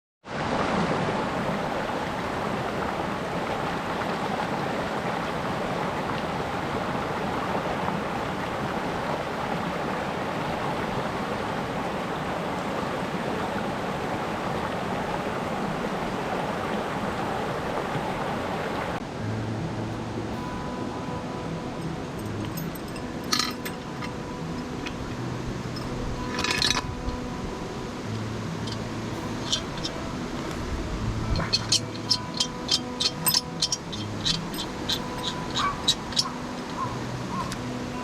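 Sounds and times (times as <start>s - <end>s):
stream rushing over rocks: 0.2s - 38.0s.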